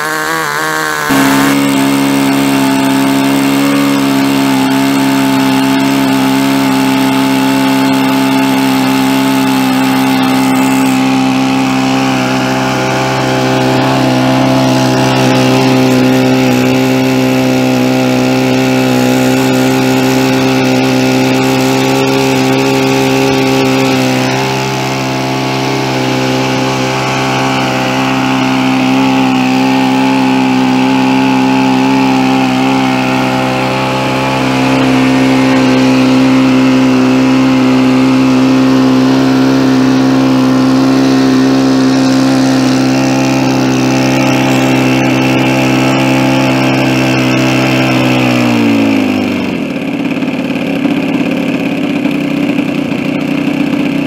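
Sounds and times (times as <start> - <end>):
model airplane engine and propeller: 0.0 - 54.0.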